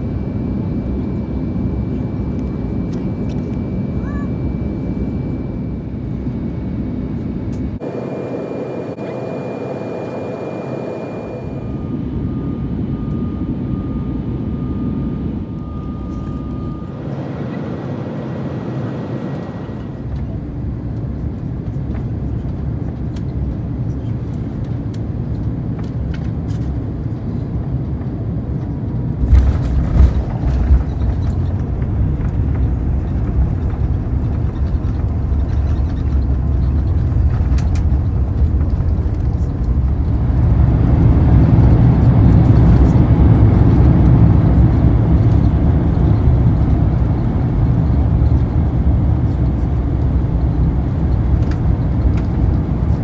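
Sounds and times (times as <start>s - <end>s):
jet engines and runway rumble: 0.0s - 53.0s.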